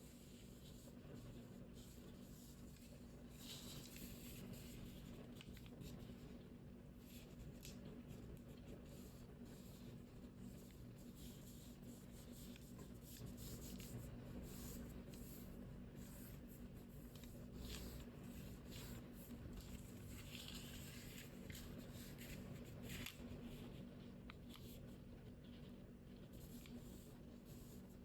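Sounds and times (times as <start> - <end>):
paper being folded and creased: 0.0 - 28.0.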